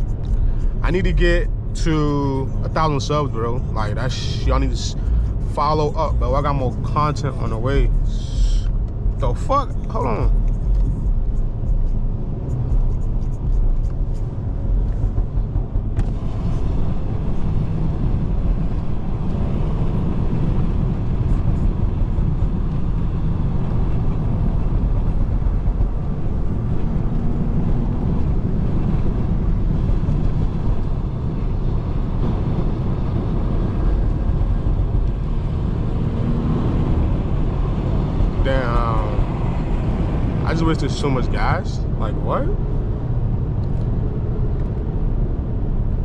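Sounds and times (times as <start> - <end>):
car engine and road rumble: 0.0 - 46.0.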